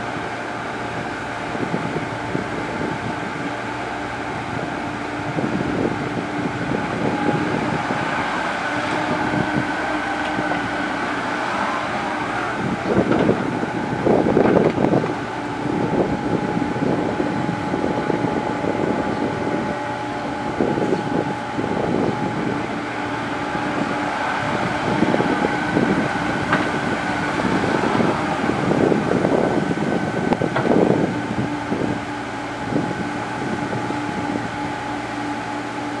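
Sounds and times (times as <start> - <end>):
excavator diesel engine running: 0.0 - 36.0
hydraulic whine: 0.0 - 36.0.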